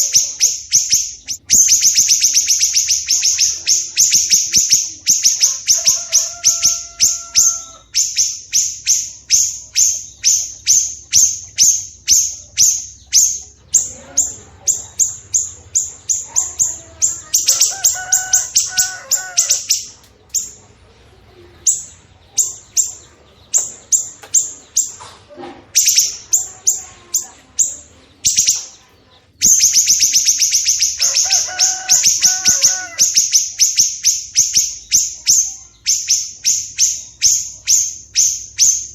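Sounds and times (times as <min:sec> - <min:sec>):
bird warbling: 0:00.0 - 0:38.9
songbirds chirping: 0:00.0 - 0:38.9.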